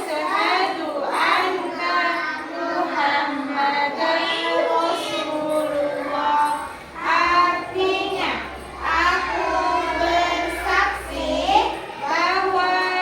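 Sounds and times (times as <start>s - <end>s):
high voices singing unaccompanied: 0.0s - 13.0s.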